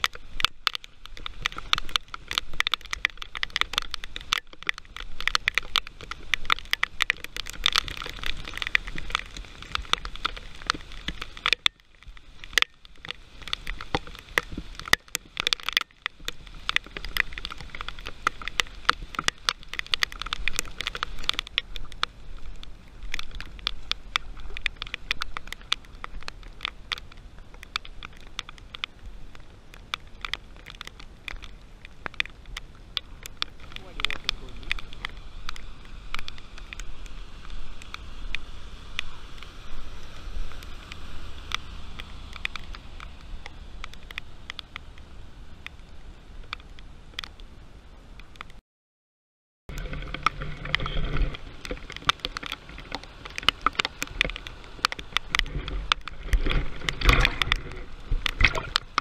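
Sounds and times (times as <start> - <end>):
heavy rain falling: 0.0 - 48.5, 49.7 - 59.0
raindrops striking the camera: 0.0 - 48.6, 49.7 - 59.0.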